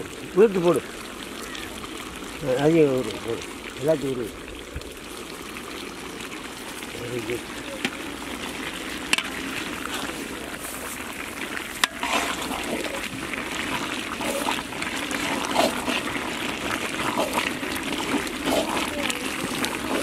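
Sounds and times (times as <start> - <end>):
curry bubbling and boiling: 0.0 - 20.0.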